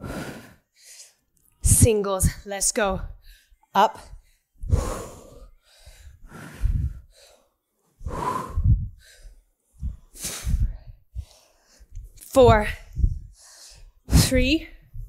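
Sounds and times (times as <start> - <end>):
woman breathing hard: 0.0 - 1.3, 3.1 - 14.1.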